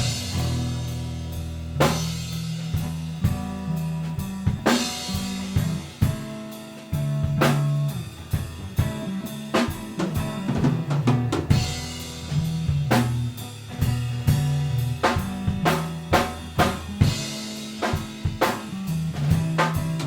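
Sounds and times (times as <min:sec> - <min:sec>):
bass guitar notes: 0:00.0 - 0:20.0
drum kit playing: 0:00.0 - 0:20.0.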